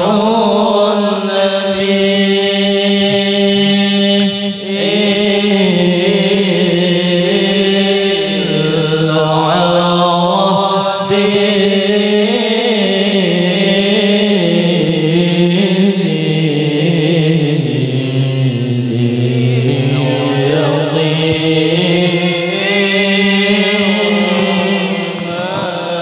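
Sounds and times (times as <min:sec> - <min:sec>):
man chanting through loudspeakers: 0:00.0 - 0:26.0.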